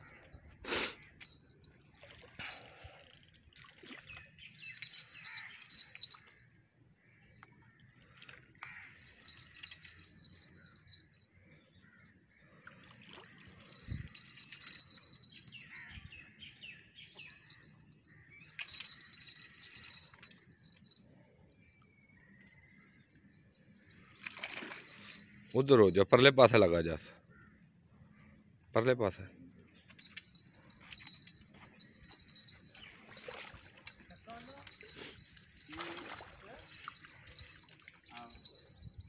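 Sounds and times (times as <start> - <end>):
birds chirping: 0.0 - 28.5, 29.4 - 39.0.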